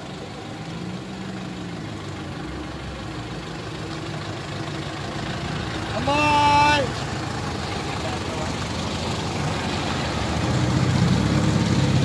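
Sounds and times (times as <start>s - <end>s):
offroad vehicle engines running: 0.0s - 12.0s.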